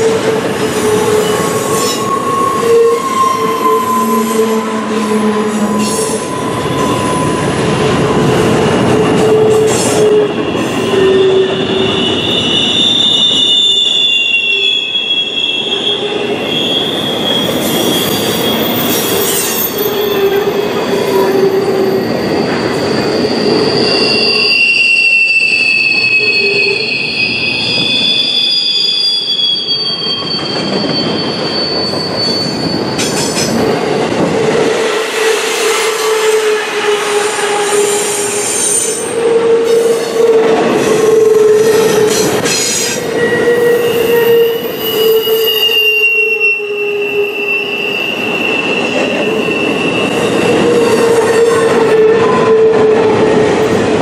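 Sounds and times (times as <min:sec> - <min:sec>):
high-pitched wheel squeals: 0:00.0 - 0:33.6, 0:35.1 - 0:53.7
steel wheels rumbling on rail: 0:00.0 - 0:54.0.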